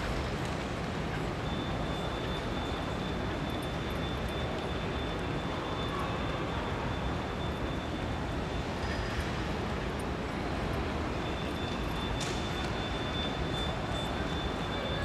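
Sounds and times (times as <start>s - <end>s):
faint high whine: 1.1s - 15.0s.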